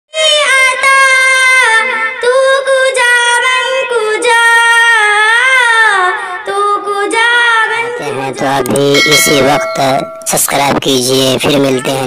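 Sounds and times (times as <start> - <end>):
girl singing into microphone: 0.1 - 12.0.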